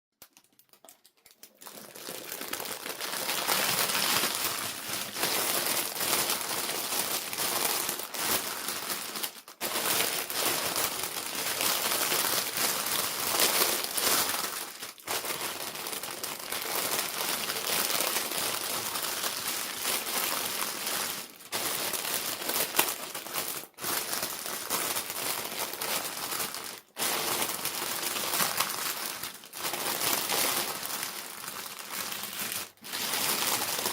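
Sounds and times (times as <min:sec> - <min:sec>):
plastic packaging crackling: 0:00.2 - 0:33.9.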